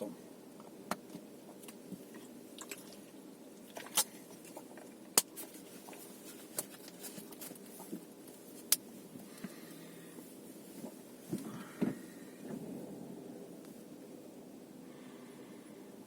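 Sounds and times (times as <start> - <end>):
car cabin hum: 0.0 - 16.0.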